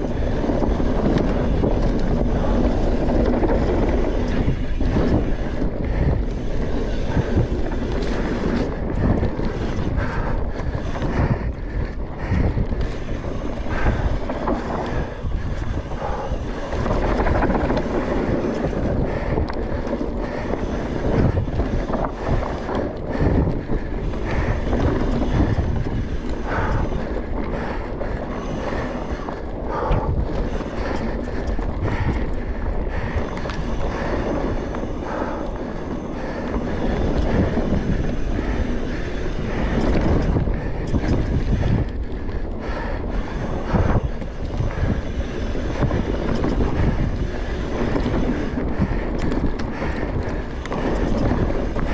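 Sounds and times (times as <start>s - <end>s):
bike clicks and rattles: 0.0s - 51.9s
tyres rumbling on dirt trail: 0.0s - 51.9s
wind buffeting microphone: 0.0s - 51.9s.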